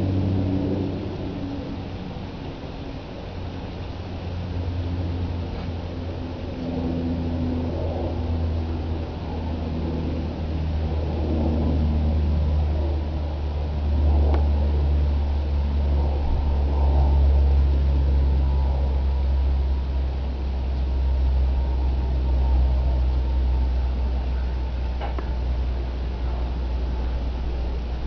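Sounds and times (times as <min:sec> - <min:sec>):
blizzard wind buffeting microphone: 0:00.0 - 0:28.0.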